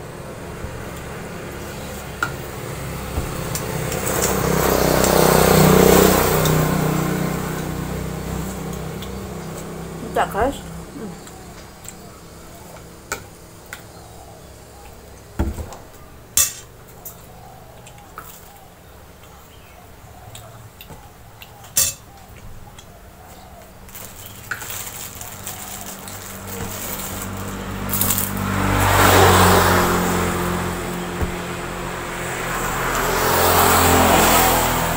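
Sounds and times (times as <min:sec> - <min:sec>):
passing motor vehicle: 0:00.0 - 0:34.9.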